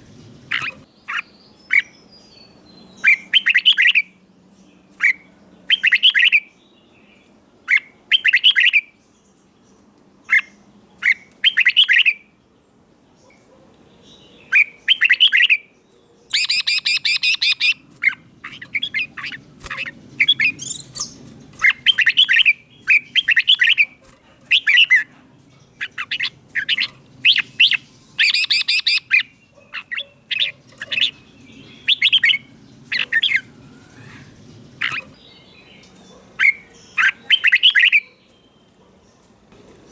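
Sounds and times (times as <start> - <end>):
bird singing clear phrases: 0.0 - 39.9.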